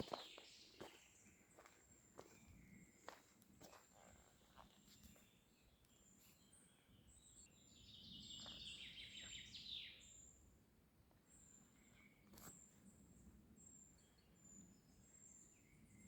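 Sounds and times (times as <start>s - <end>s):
bird song with trill: 0.0s - 10.5s, 11.3s - 16.0s.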